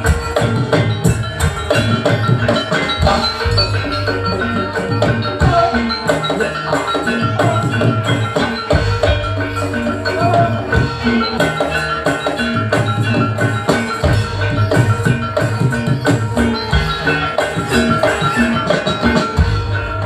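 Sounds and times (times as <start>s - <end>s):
drums: 0.0s - 20.0s
metallophones and gongs: 0.0s - 20.0s.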